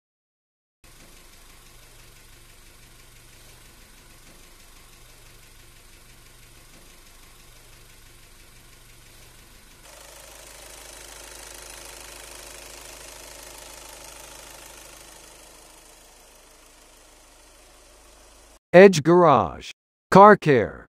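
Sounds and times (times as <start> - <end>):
car engine idling: 1.2 - 18.5.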